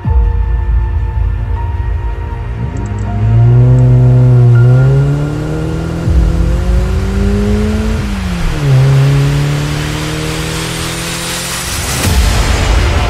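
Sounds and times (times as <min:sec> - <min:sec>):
car engine revving: 0:02.1 - 0:13.0.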